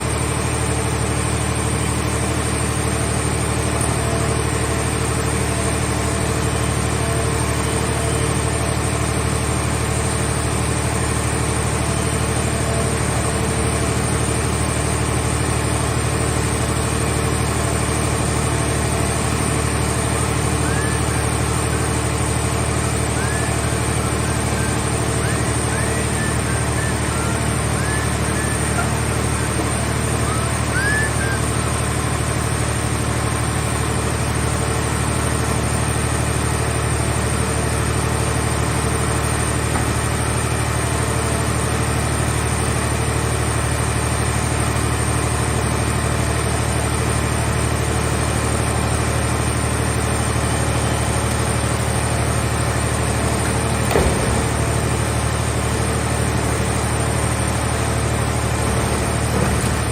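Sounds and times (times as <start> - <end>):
baler engine running: 0.0 - 59.9.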